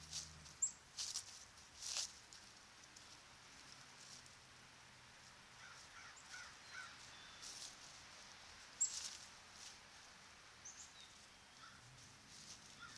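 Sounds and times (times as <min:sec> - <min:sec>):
rustling in dry leaves: 0:00.0 - 0:12.9.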